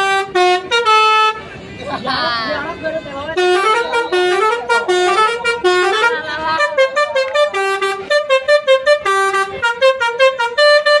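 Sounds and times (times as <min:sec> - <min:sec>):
musical bus horn melody: 0:00.0 - 0:11.0.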